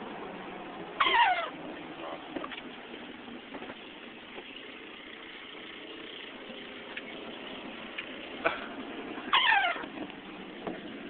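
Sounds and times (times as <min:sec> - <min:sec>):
vehicle engine from inside cabin: 0:00.0 - 0:11.0.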